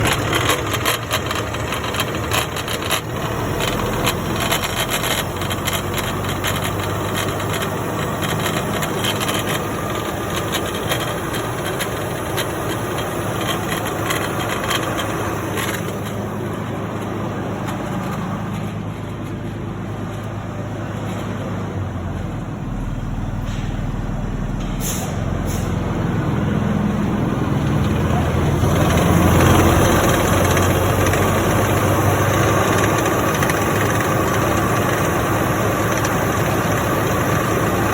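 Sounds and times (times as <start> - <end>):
power take-off rattling: 0.0 - 17.0, 22.7 - 37.9
engine hum: 0.0 - 37.9.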